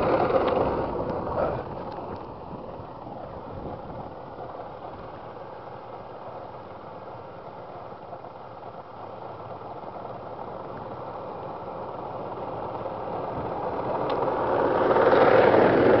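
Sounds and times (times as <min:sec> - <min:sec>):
rail truck engine and wheels: 0:00.0 - 0:16.0.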